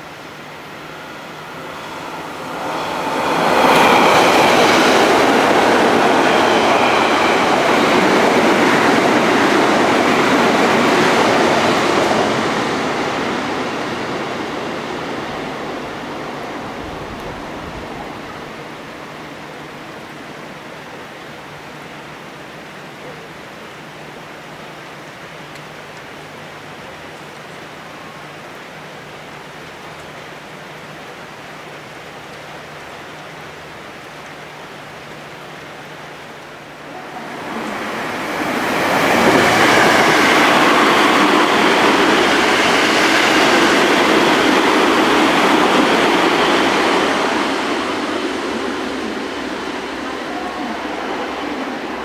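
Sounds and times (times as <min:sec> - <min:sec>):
electric train passing: 0:00.0 - 0:22.9, 0:28.1 - 0:52.0
rain hiss: 0:00.0 - 0:52.0.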